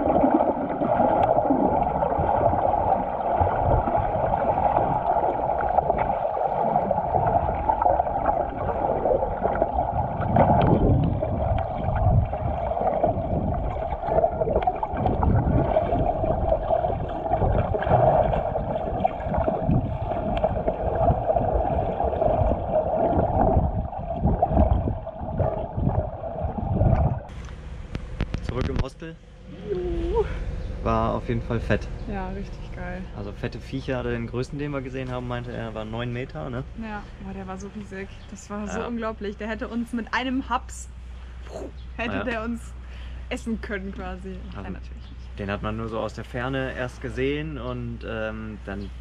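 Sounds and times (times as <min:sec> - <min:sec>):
muffled underwater rushing: 0:00.0 - 0:41.2
water sloshing and gurgling: 0:00.0 - 0:47.8.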